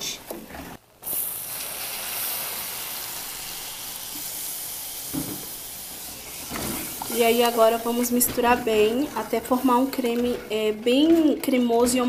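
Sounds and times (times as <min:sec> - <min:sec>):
roux sizzling: 0:01.0 - 0:10.7.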